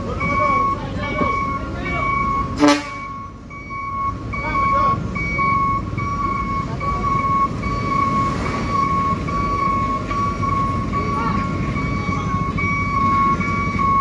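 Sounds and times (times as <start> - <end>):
diesel truck engine rumbling: 0.0 - 14.0
high-pitched beeping: 0.0 - 14.0.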